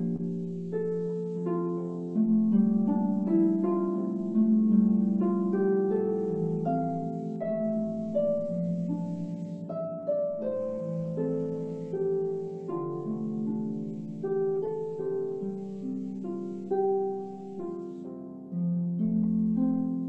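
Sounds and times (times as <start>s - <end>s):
harp playing melody: 0.0s - 20.0s.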